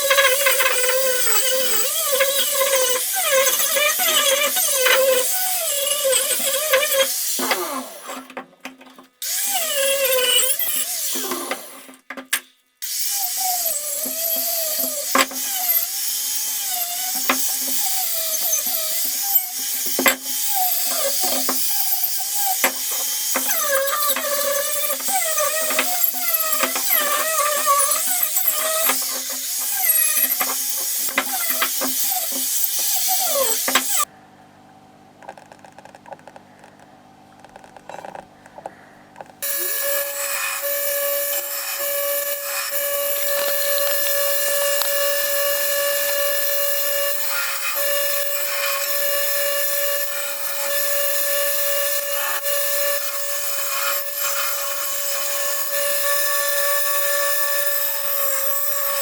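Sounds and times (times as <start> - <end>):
power grinder whining: 0.0 - 8.4, 9.2 - 12.0, 12.8 - 34.1, 37.8 - 59.0.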